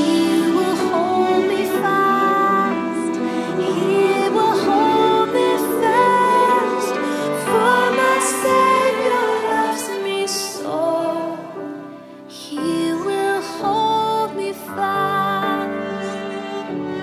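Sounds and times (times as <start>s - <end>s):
woman singing a hymn: 0.0s - 16.2s
soft accompaniment: 0.0s - 17.0s.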